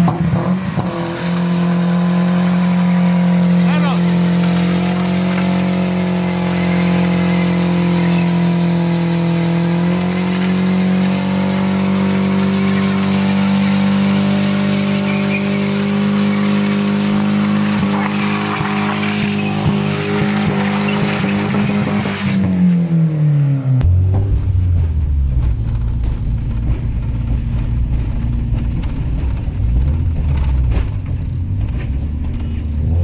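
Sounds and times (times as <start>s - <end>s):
car engine revving high: 0.0s - 33.0s
tyre spinning on wet pavement: 0.4s - 22.4s, 24.6s - 33.0s.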